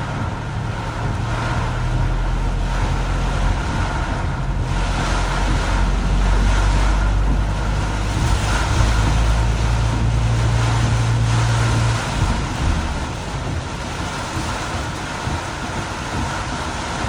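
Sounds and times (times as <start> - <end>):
rain and tyre spray hiss: 0.0 - 17.0
road and engine drone: 0.0 - 17.0.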